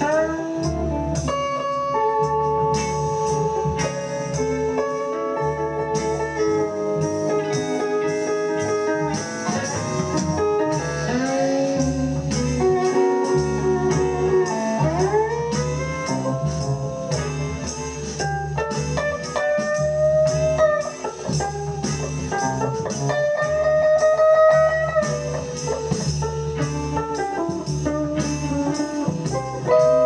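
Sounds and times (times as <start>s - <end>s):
slide guitar blues: 0.0s - 30.0s.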